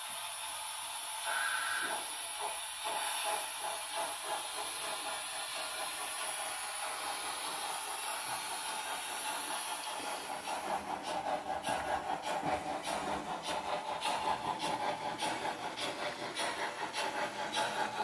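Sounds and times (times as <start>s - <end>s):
model train hiss: 0.0s - 18.0s.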